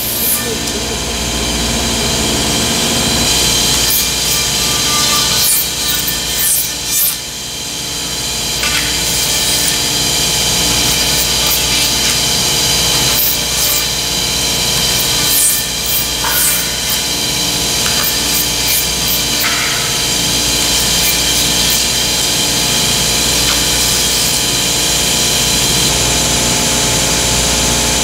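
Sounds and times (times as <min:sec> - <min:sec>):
router cutter whining and rasping: 0:00.0 - 0:27.0.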